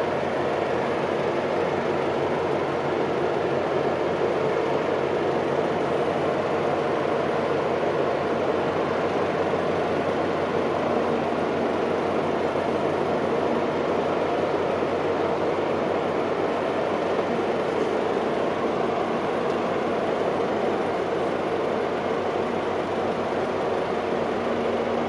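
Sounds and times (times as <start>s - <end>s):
ship engines droning: 0.0s - 25.0s.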